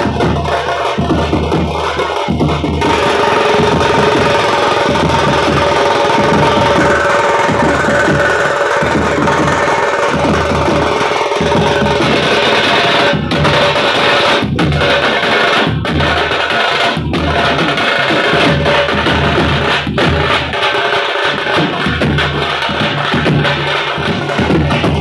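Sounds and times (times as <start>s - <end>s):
drum band playing: 0.0s - 25.0s.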